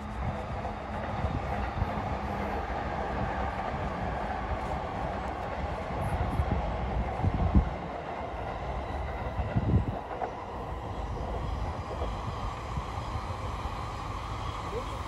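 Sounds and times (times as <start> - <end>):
train wheels and motors rumbling: 0.0 - 15.0.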